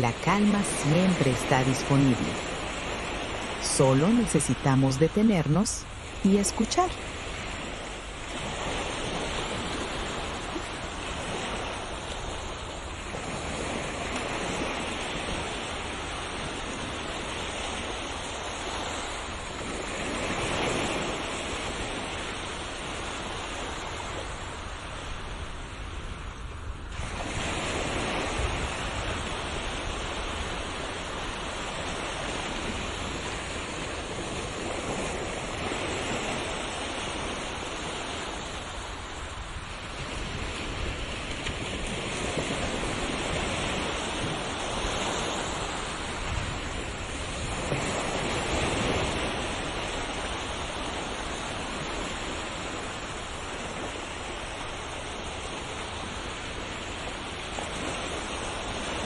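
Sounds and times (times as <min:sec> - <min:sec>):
sea waves breaking: 0:00.0 - 0:59.0.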